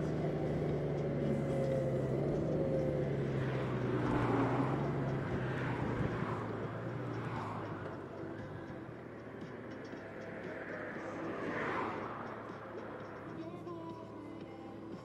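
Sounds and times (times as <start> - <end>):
lorry passing: 0.0 - 15.0
motorcycle engine cruising: 0.0 - 15.0
road and wind noise: 0.0 - 15.0.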